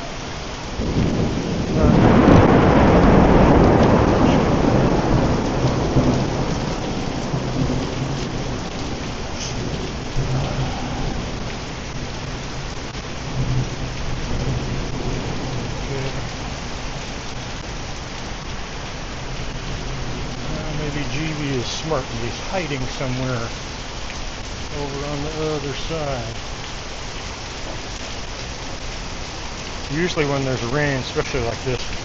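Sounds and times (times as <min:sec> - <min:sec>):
heavy rain pouring: 0:00.0 - 0:32.0
thunder rumble: 0:00.0 - 0:32.0.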